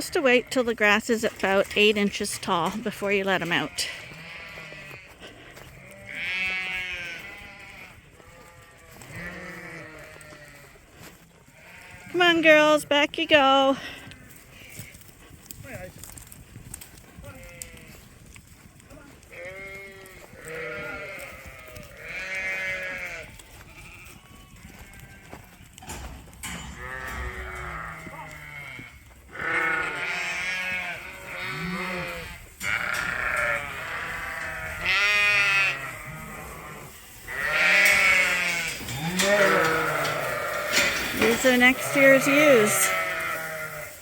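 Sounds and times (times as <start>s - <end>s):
sheep bleating: 0.0s - 14.9s, 17.2s - 18.1s, 19.0s - 25.5s, 26.8s - 44.0s.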